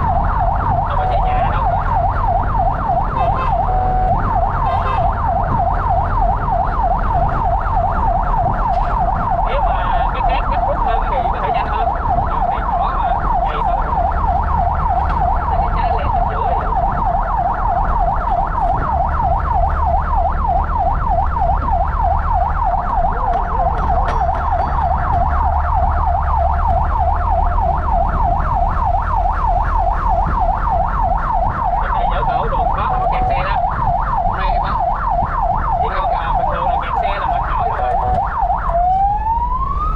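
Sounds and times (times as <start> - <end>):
fire truck siren yelping: 0.0 - 39.9
truck engine rumbling: 0.0 - 39.9.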